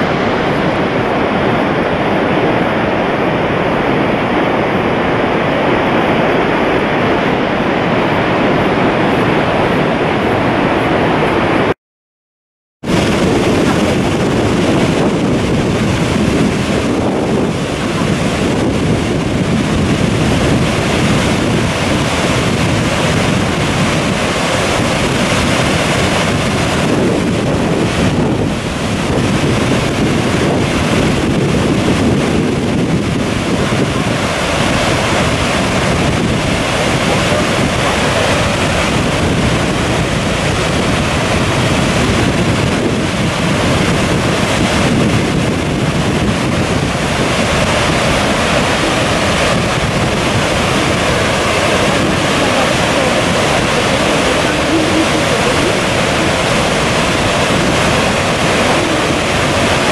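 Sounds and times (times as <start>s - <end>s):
waterfall rushing: 0.0s - 11.7s, 12.9s - 59.9s.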